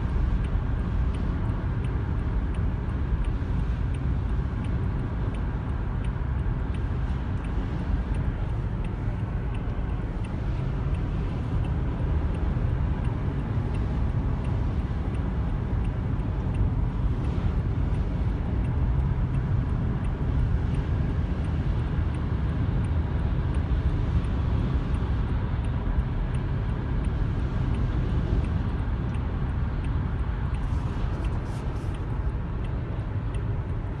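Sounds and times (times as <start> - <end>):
tyres rumbling on wet road: 0.0 - 34.0.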